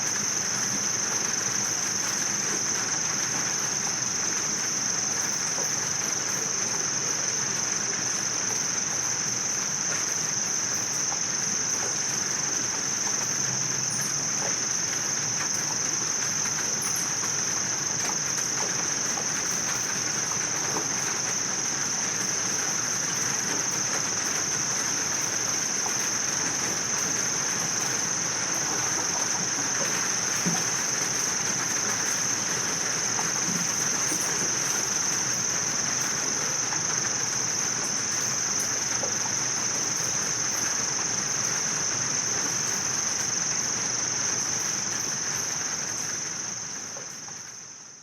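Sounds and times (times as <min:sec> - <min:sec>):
background hiss: 0:00.0 - 0:48.0
insects trilling: 0:00.0 - 0:48.0.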